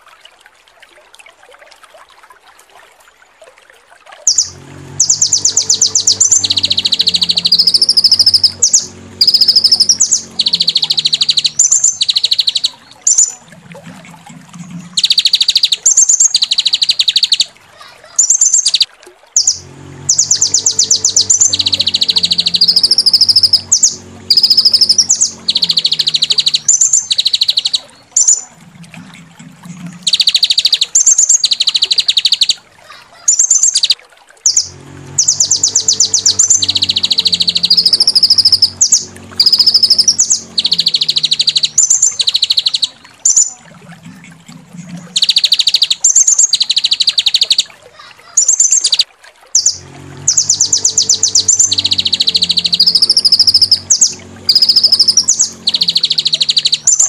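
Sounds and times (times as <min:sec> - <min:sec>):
low hum: 0:04.2 - 0:48.0, 0:49.4 - 0:57.0
songbird rapid notes and trills: 0:04.2 - 0:57.0.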